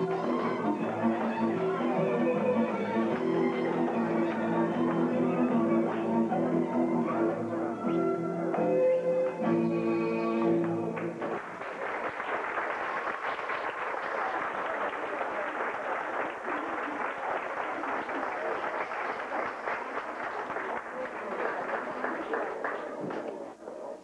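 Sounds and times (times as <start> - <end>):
audience applause: 0.0 - 7.5, 10.6 - 23.4.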